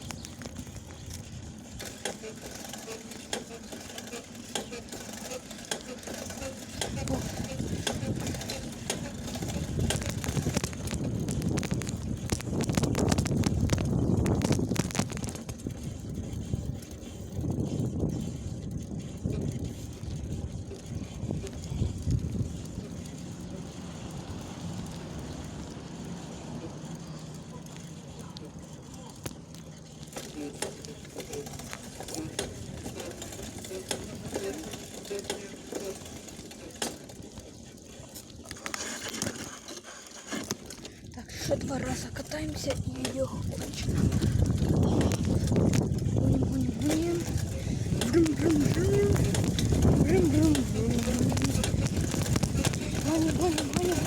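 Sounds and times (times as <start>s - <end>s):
small vehicle rumbling and rattling: 0.0s - 54.0s.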